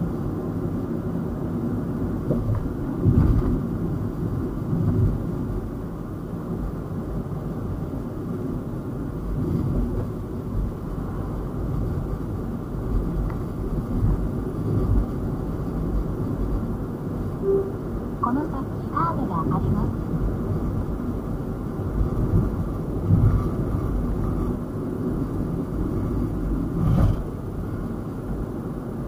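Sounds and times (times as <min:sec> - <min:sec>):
car tyres and engine rumbling: 0:00.0 - 0:19.2, 0:19.8 - 0:29.0.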